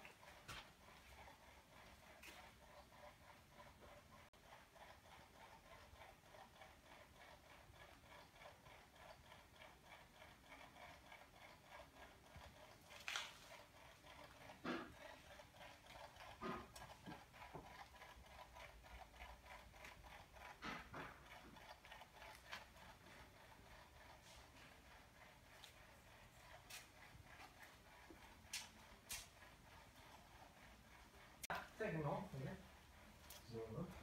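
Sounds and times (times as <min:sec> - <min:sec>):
faint steady ticking: 0:00.0 - 0:34.0.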